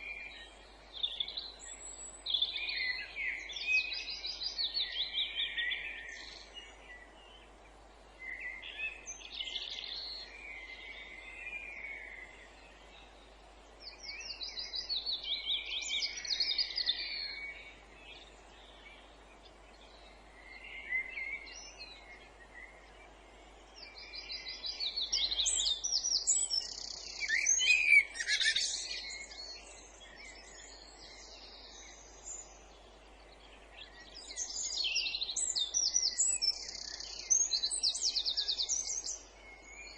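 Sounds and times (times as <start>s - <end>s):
faint steady hiss: 0.0s - 39.9s
songbirds singing: 0.0s - 39.9s.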